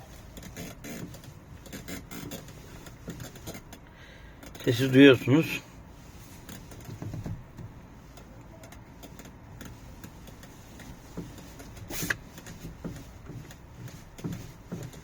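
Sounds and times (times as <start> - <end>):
steering wheel scraping and clicking: 0.0 - 15.0.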